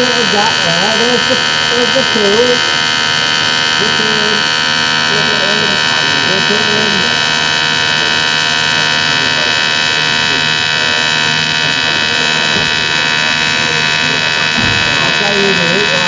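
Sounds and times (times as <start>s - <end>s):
welding arc buzzing: 0.0s - 16.0s.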